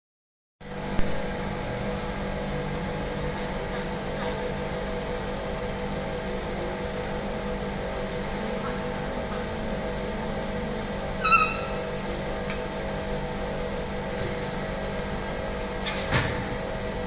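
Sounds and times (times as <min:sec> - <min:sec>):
factory machinery hum: 0:00.6 - 0:17.0.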